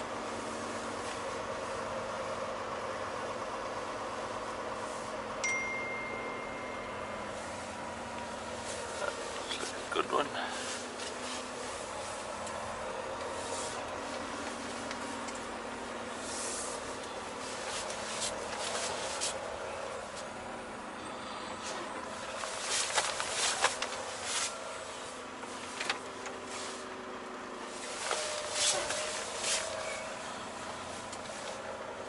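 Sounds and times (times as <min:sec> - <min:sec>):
truck engine and road hum: 0:00.0 - 0:32.0.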